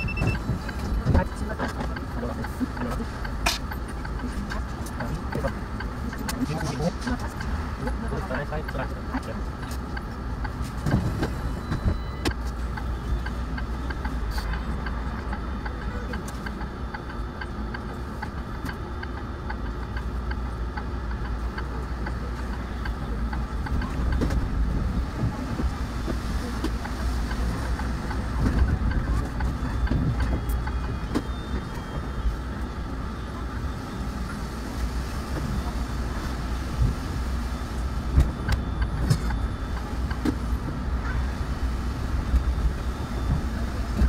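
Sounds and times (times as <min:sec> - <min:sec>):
bus engine hum: 0:00.0 - 0:44.0
road noise: 0:00.0 - 0:44.0.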